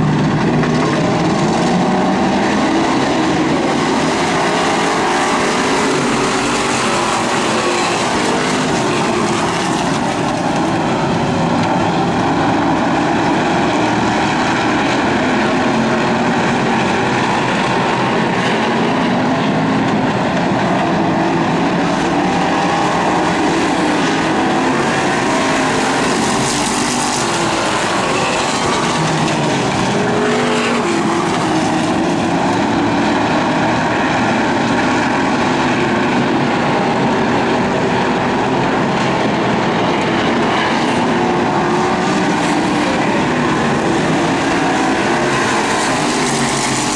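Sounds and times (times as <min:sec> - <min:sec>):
stock car engines racing: 0:00.0 - 0:46.9.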